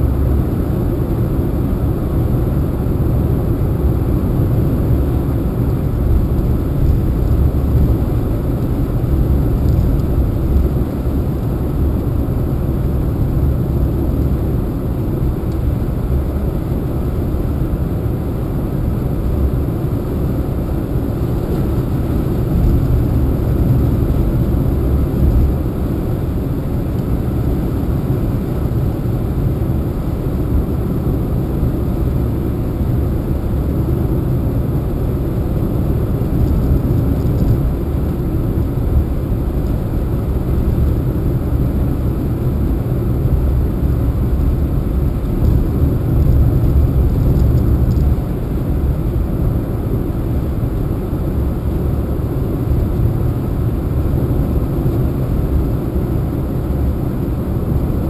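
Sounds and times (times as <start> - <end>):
car driving rumble: 0.0 - 56.9.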